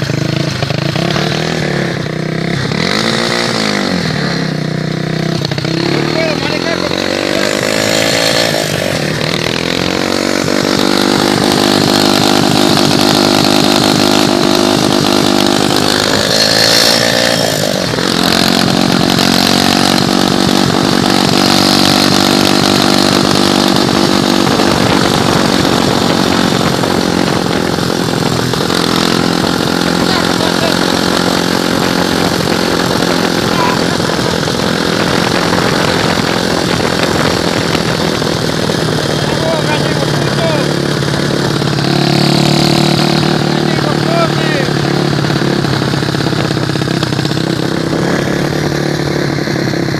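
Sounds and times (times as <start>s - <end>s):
engine running and revving: 0.0s - 49.9s.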